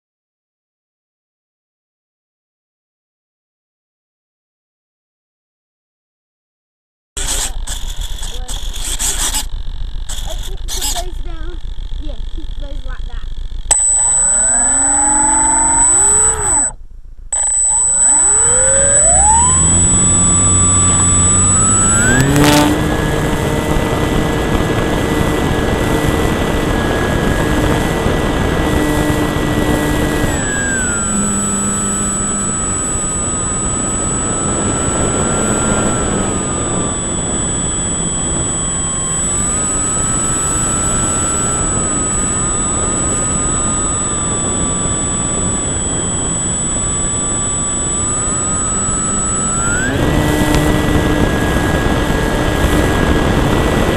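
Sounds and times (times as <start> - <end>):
electric motor and propeller whine: 7.2 - 16.8, 17.4 - 53.9.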